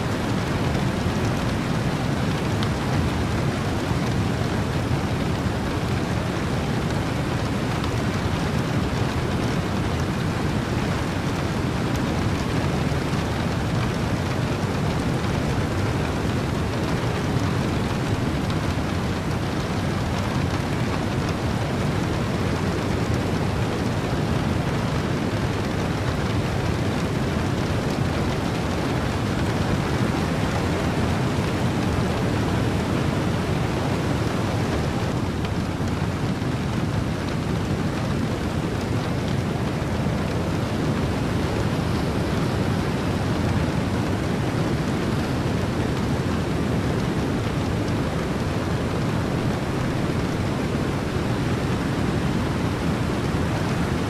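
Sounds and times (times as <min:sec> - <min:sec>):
ocean wind: 0:00.0 - 0:54.0
steady rain: 0:00.0 - 0:54.0.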